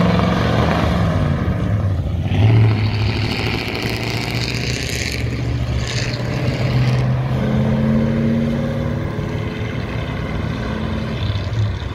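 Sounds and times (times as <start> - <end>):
car engine droning: 0.0 - 11.9.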